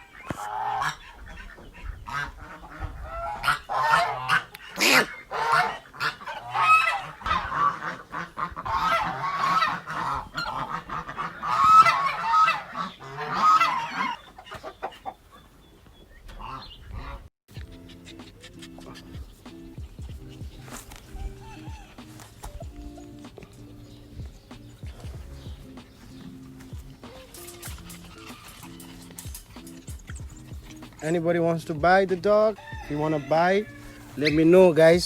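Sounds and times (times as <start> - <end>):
animals calling: 0.0 - 35.0.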